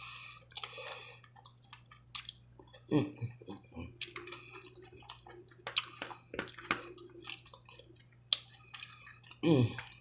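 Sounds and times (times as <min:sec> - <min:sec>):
wet chewing and lip smacks: 0:00.4 - 0:10.0.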